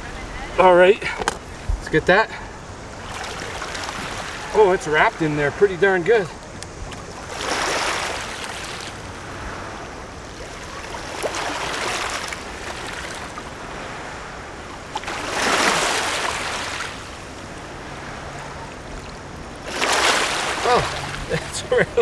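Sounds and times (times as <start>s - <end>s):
river water washing on rocks: 0.0s - 22.0s.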